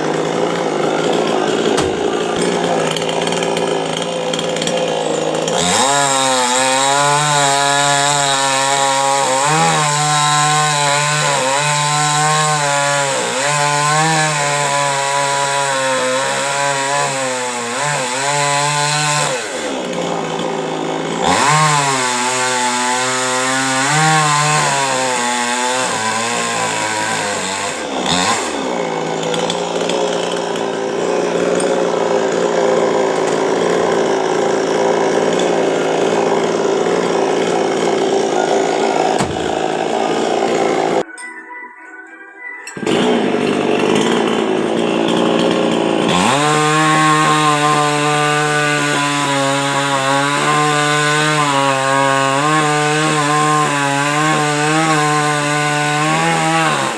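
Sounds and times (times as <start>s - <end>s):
chainsaw cutting wood: 0.0s - 41.1s, 42.8s - 56.9s.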